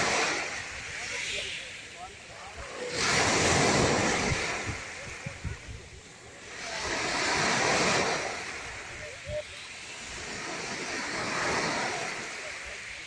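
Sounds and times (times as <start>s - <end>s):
small waves breaking on shore: 0.0s - 13.0s.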